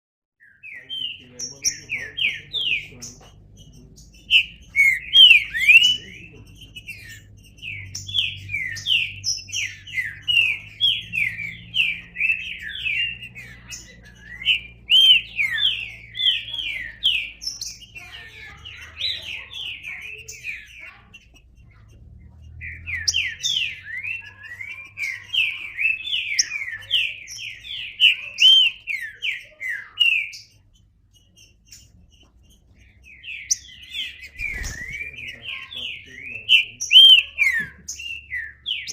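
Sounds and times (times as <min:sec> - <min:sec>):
bird whistling song: 0:00.4 - 0:38.9.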